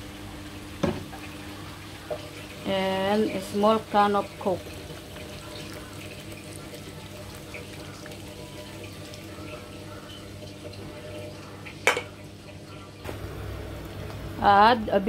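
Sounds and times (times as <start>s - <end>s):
liquid hissing in frying pan: 1.1s - 14.0s.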